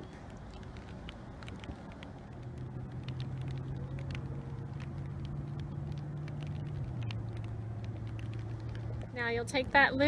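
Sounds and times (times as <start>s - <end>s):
faint clicks: 0.0s - 9.1s
low rumble: 0.0s - 10.0s
vehicle engine humming: 0.0s - 10.0s.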